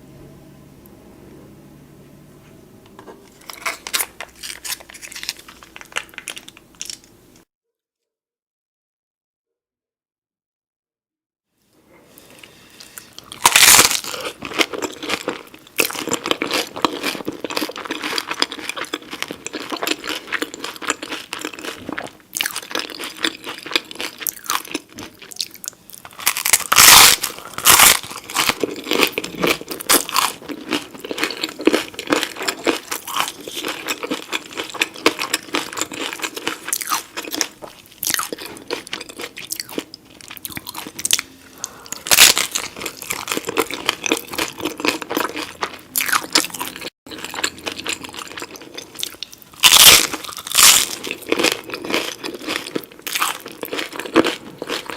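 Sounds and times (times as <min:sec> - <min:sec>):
person chewing crunchy food: 0:03.1 - 0:07.2, 0:12.0 - 0:54.9.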